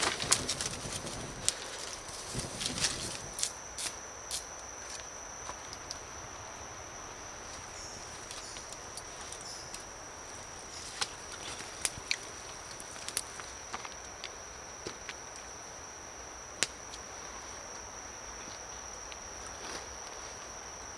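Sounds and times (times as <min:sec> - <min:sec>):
high-pitched insect drone: 0:00.0 - 0:20.9.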